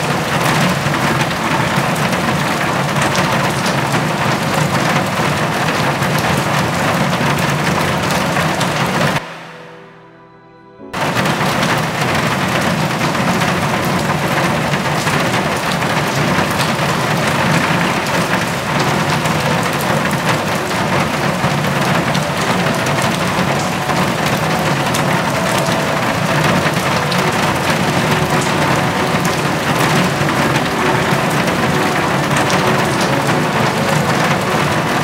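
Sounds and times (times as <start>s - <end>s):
heavy rain: 0.0s - 9.8s, 11.0s - 35.0s.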